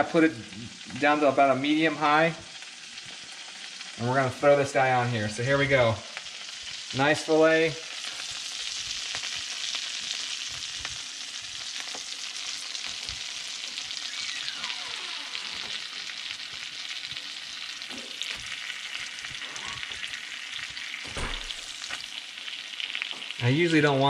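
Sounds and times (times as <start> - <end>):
fish sizzling in butter: 0.0 - 24.0.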